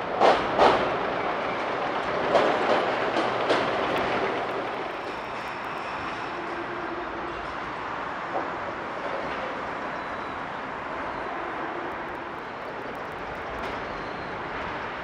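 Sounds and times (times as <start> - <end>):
train-like clattering: 0.0 - 15.0.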